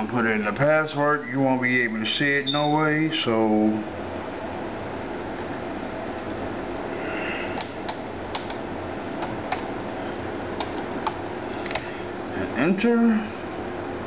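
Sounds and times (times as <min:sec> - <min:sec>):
computer fans whirring: 0:00.0 - 0:14.0.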